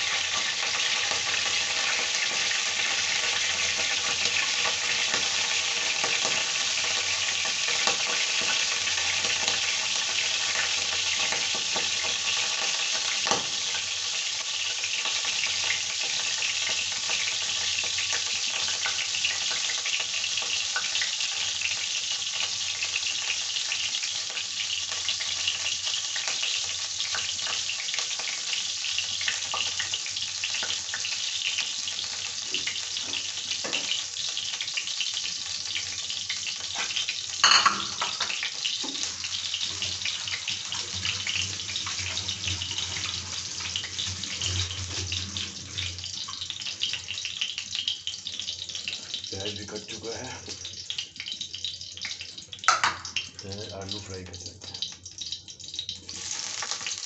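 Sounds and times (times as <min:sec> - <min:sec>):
cooking oil sizzling: 0:00.0 - 0:57.0.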